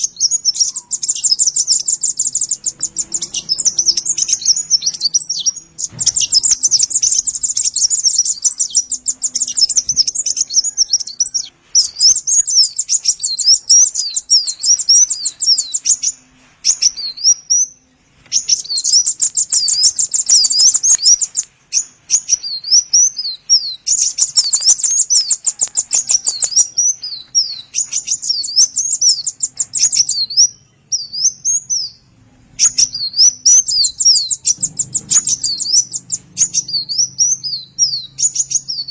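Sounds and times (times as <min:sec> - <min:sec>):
songbird chirping trills: 0:00.0 - 0:38.9.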